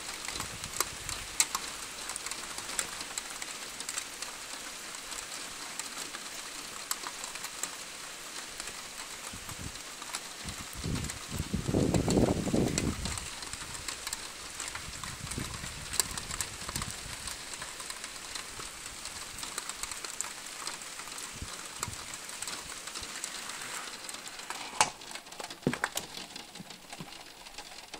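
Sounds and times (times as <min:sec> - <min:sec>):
rain pattering on a surface: 0:00.0 - 0:27.9.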